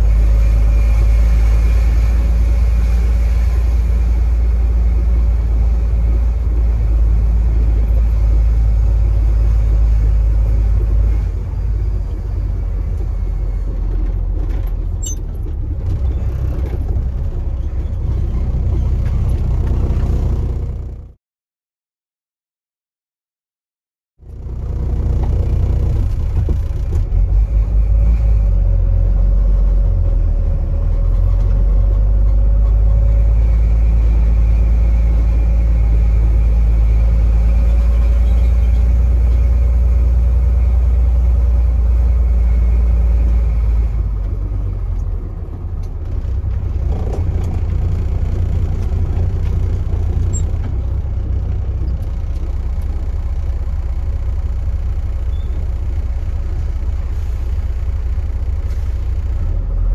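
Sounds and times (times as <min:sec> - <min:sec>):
diesel truck engine rumbling: 0:00.0 - 0:21.2, 0:24.2 - 0:59.9.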